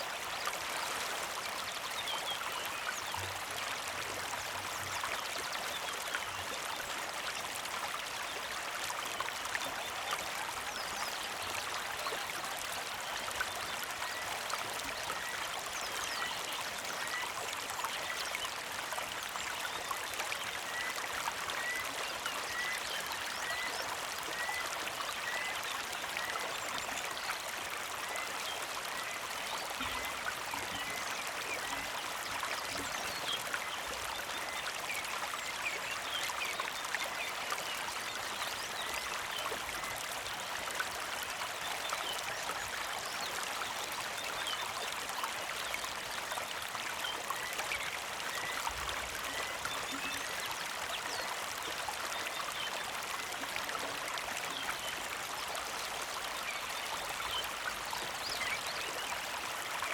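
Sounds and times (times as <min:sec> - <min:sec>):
creek flowing and trickling: 0:00.0 - 0:59.9.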